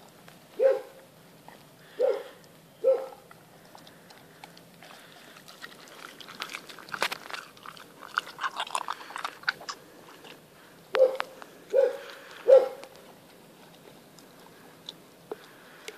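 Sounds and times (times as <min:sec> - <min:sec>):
dog chewing raw meat: 0:02.8 - 0:15.9.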